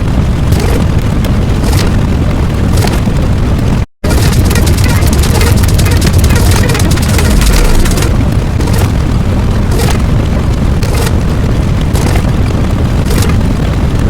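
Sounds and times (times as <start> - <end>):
explosion-like rumble: 0.0 - 14.0.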